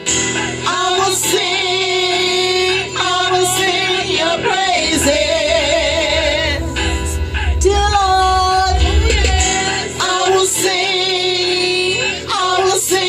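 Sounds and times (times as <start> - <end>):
steady music backing: 0.0 - 13.0
woman singing: 0.7 - 13.0.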